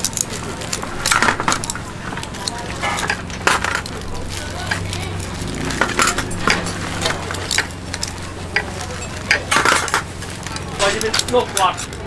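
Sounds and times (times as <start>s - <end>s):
tongs scraping: 0.0s - 12.0s.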